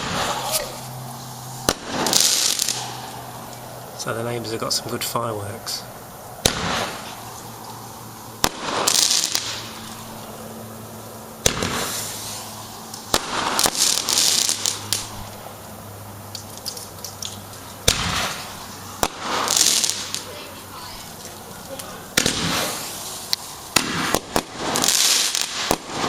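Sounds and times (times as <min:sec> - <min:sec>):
fireworks bangs: 0:00.0 - 0:26.0
hissing crackle of fireworks: 0:00.0 - 0:26.0.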